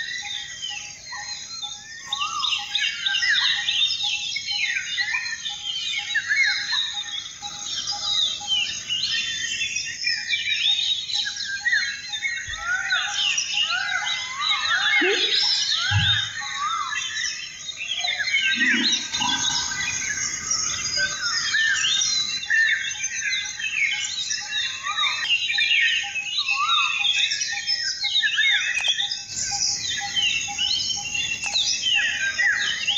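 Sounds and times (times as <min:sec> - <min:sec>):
many birds chirping: 0:00.0 - 0:32.9.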